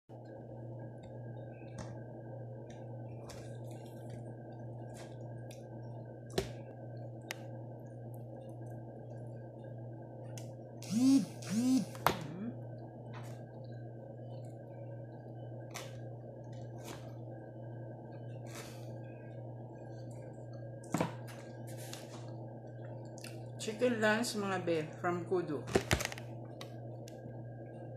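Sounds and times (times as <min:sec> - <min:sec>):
steady low hum: 0:00.1 - 0:27.9.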